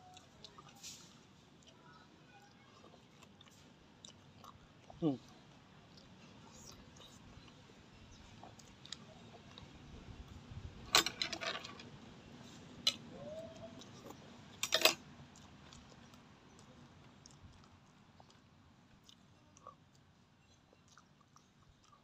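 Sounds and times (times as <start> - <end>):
person chewing: 0.1 - 10.4, 13.8 - 14.3, 15.2 - 22.0.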